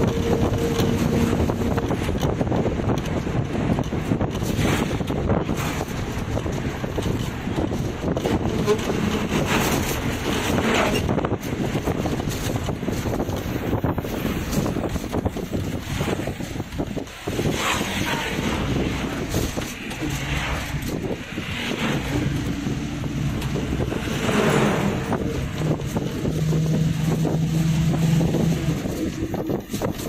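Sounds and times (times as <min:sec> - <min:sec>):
low engine hum: 0:00.0 - 0:30.0
rushing noise: 0:00.0 - 0:30.0
wind rumbling on microphone: 0:00.0 - 0:30.0.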